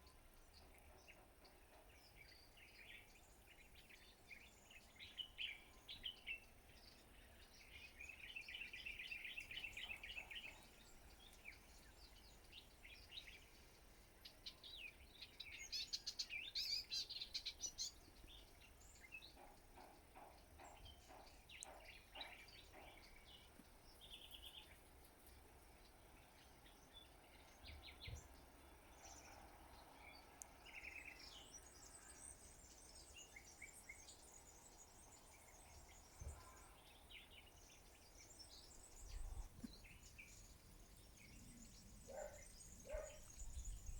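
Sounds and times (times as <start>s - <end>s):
birds chirping and trilling: 0.0s - 24.8s, 25.8s - 43.9s.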